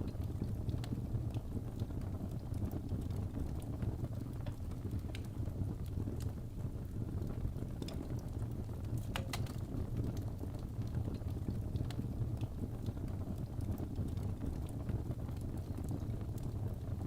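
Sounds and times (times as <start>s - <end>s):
fire burning: 0.0s - 17.0s
fire crackling and popping: 0.0s - 17.0s.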